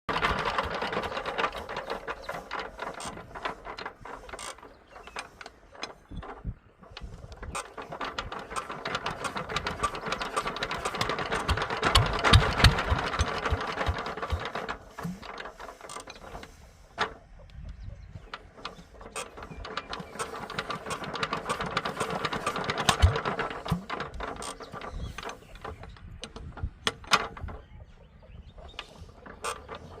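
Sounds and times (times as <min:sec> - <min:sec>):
rapid mechanical clicking: 0:00.1 - 0:27.7, 0:28.6 - 0:30.0.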